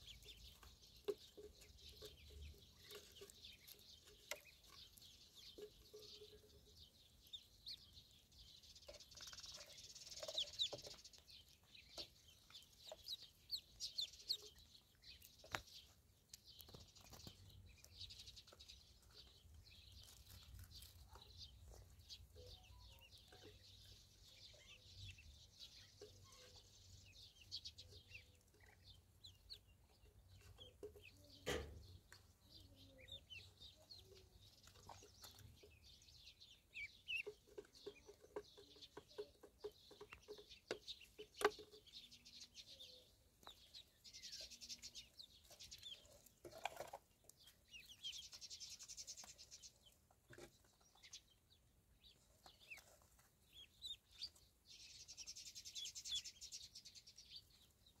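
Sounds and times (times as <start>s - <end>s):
ducklings peeping: 0.0s - 58.0s.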